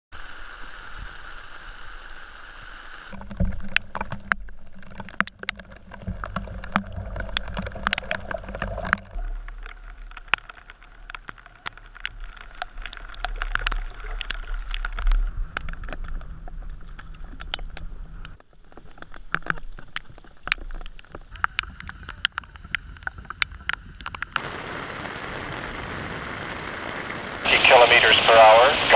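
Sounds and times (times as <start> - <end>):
steady rain: 0.1 - 28.9
canoes being paddled in water: 3.0 - 28.9
raindrops tapping on camera: 3.1 - 28.9.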